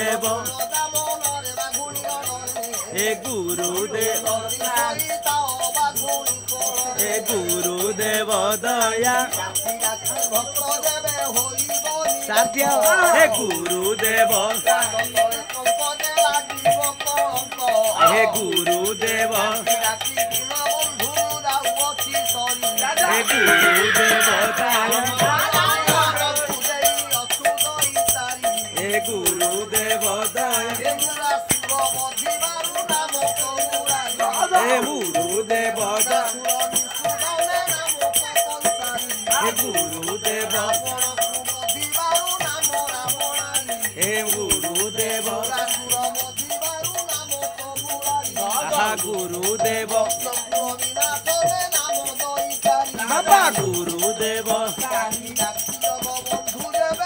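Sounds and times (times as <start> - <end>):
barrel drum rhythm: 0.0 - 57.0
brass hand cymbals jingling: 0.0 - 57.0
group devotional singing: 0.0 - 57.0.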